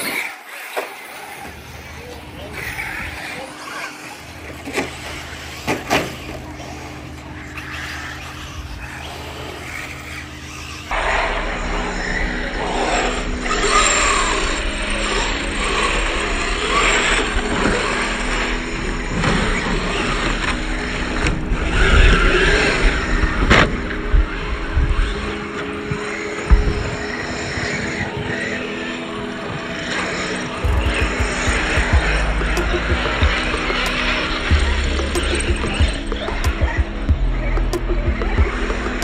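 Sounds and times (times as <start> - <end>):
radio-controlled cars whirring: 0.0 - 39.0.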